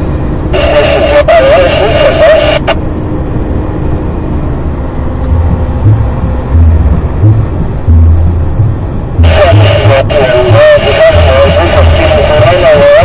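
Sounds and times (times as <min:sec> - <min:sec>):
deep rumbles: 0:00.0 - 0:13.0
engine and road rumble in lorry cab: 0:00.0 - 0:13.0.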